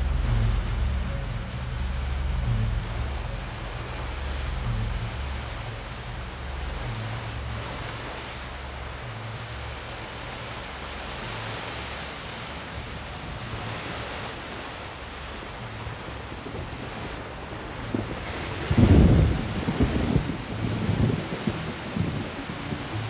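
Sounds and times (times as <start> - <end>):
heavy rain on pavement: 0.0 - 23.0
low uneven rumble: 0.0 - 23.0.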